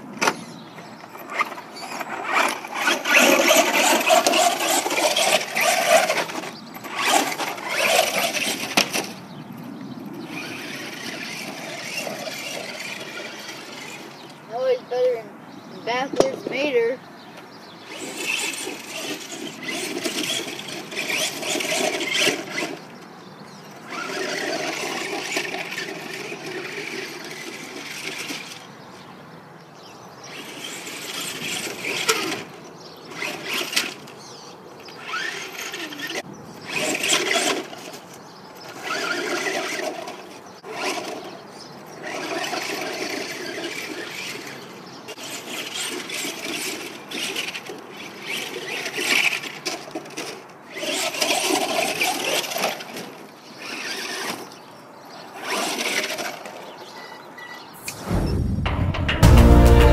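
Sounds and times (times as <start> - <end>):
toy truck electric motor whining: 0.2 - 9.2, 10.2 - 14.7, 17.8 - 28.7, 30.3 - 57.7.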